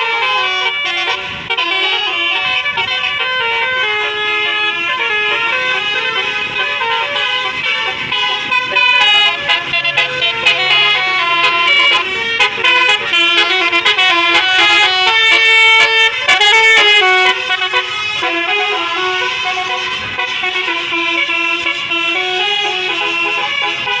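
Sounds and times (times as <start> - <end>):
bus air horns playing melody: 0.0 - 24.0.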